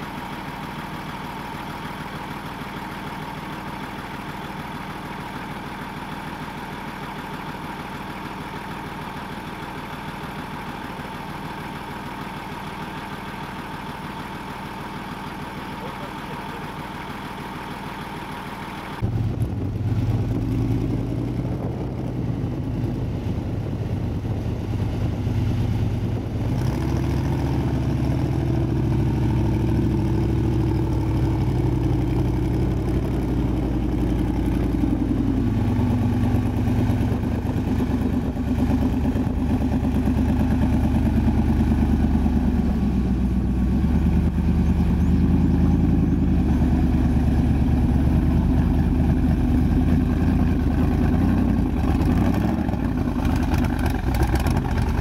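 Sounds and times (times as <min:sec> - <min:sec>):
buggy engine under load: 0:00.0 - 0:55.0.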